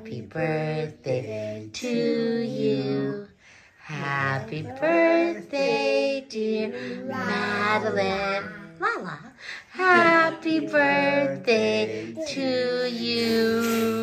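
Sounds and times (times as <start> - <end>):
child singing: 0.0 - 3.3, 3.9 - 8.9, 9.8 - 14.0
woman singing: 0.0 - 14.0.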